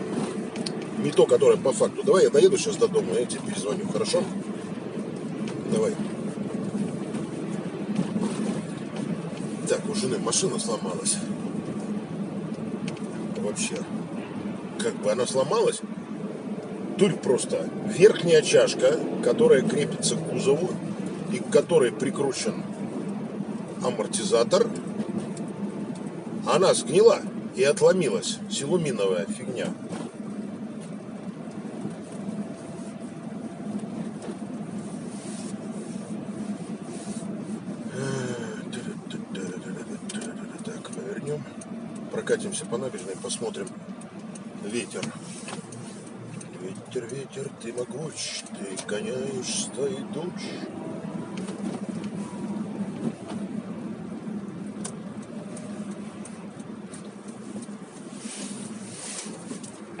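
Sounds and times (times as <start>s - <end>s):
car engine and road noise hum: 0.0s - 60.0s.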